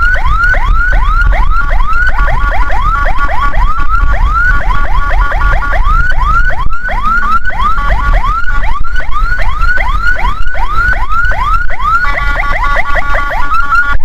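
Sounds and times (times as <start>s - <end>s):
low vehicle rumble: 0.0s - 13.6s
ambulance siren yelping: 0.0s - 14.0s.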